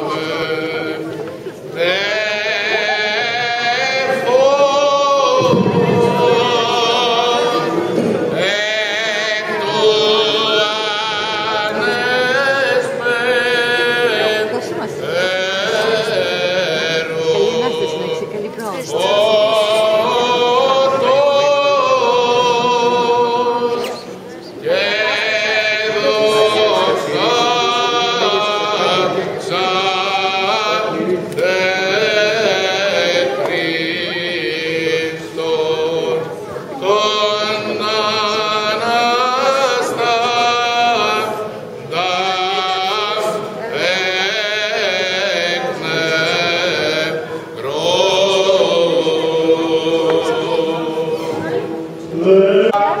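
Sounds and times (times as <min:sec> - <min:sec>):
voices chanting: 0:00.0 - 0:53.0.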